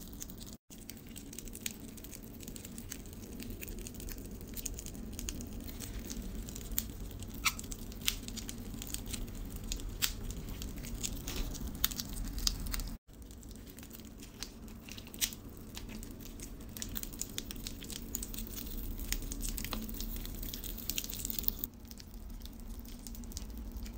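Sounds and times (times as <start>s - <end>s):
plastic film crinkling: 0.0s - 23.9s.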